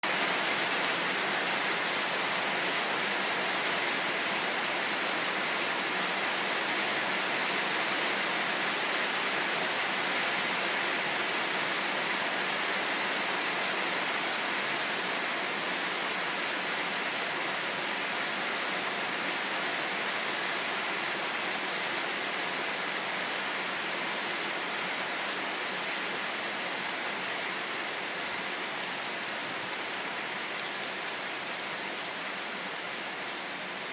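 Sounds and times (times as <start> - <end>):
steady rain: 0.0 - 33.9.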